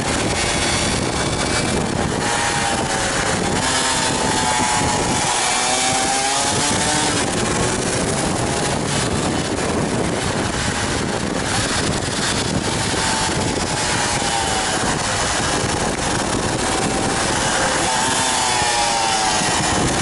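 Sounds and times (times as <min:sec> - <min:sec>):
two-stroke motorcycle engine: 0:00.0 - 0:20.0
wind rush on microphone: 0:00.0 - 0:20.0.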